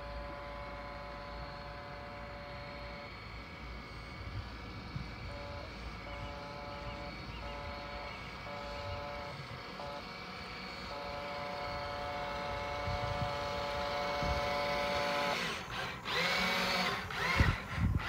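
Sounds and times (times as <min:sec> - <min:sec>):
model boat motor whining: 0:00.0 - 0:18.0.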